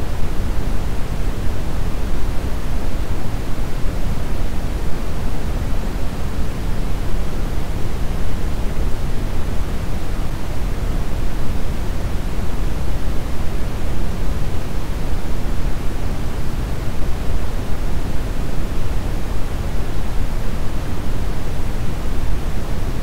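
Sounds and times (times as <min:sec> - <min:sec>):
brown noise hiss: 0:00.0 - 0:23.0.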